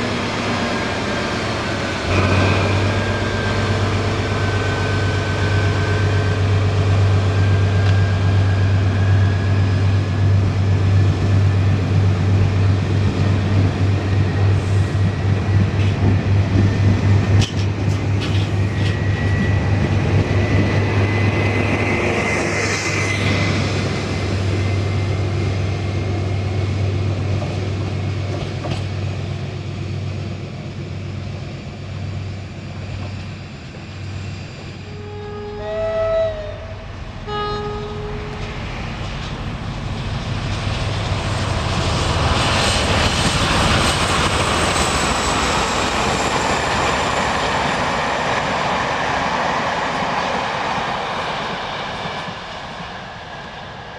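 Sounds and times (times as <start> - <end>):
train low hum: 0.0 - 53.9.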